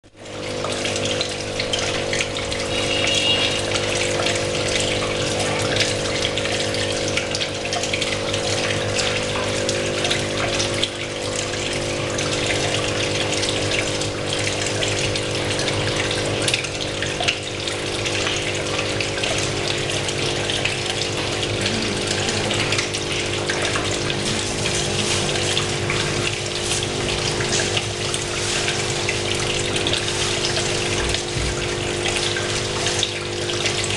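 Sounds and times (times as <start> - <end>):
electric pump hum: 0.1 - 33.9
water bubbling: 0.2 - 33.9.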